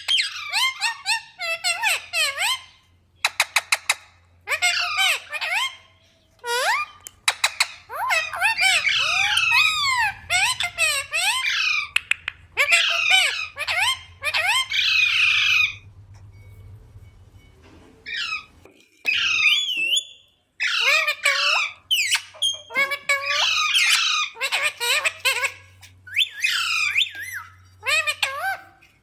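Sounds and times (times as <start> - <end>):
parakeet squawking: 0.0 - 16.1, 18.0 - 29.0.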